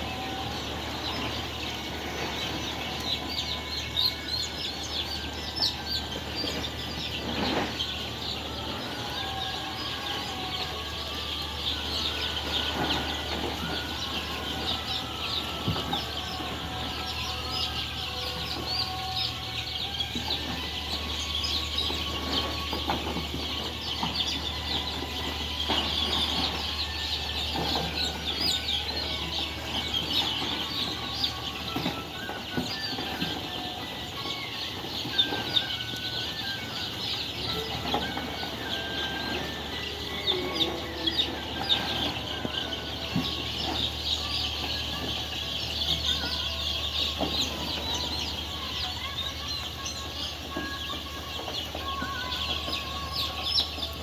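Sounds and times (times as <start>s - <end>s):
flock of chickens clucking: 0.0s - 54.0s.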